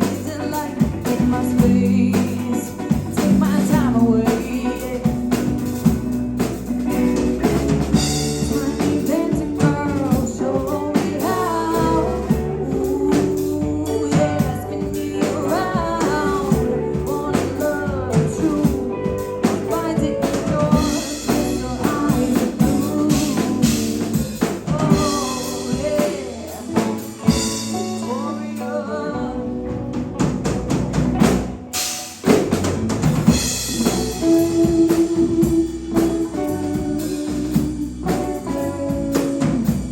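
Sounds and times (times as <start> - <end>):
woman singing: 0.0 - 30.4, 33.4 - 39.9
live rock band playing: 0.0 - 39.9.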